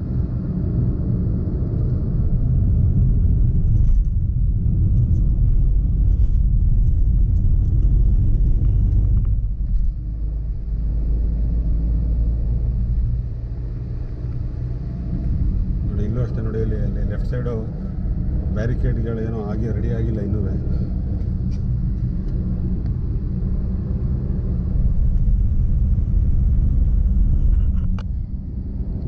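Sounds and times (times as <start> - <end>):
vehicle road and wind noise: 0.0 - 29.0.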